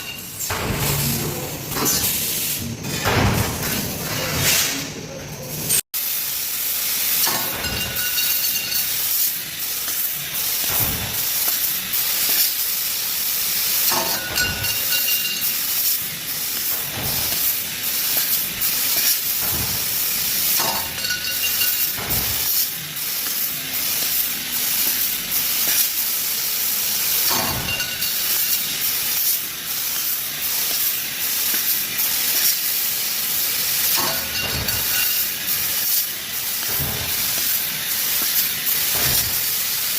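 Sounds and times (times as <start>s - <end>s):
machine hiss: 0.0s - 39.9s.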